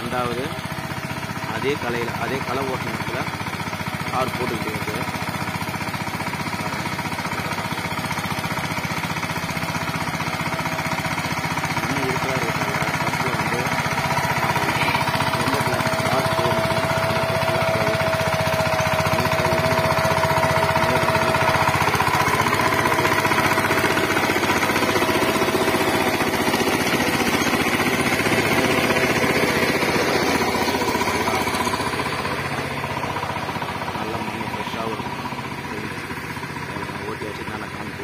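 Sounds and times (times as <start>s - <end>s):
tiller diesel engine knocking: 0.0s - 38.0s.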